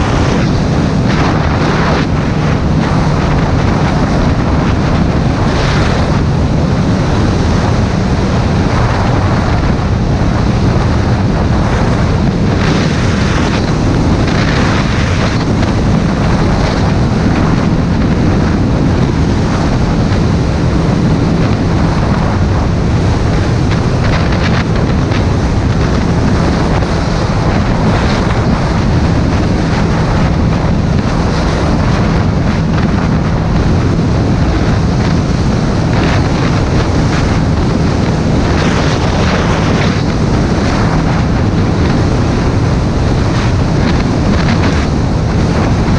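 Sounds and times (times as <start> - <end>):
motorcycle engine hum: 0.0 - 45.9
wind rushing over microphone: 0.0 - 45.9.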